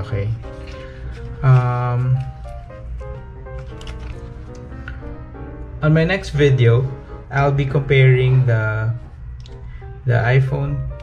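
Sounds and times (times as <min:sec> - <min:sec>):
light background melody: 0:00.0 - 0:11.0.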